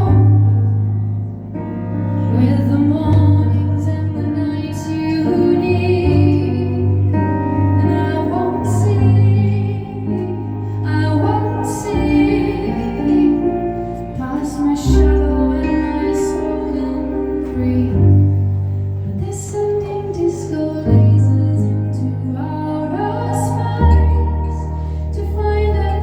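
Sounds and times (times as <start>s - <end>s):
woman singing: 0.0s - 0.9s, 2.3s - 26.0s
sustained bass notes: 0.0s - 26.0s.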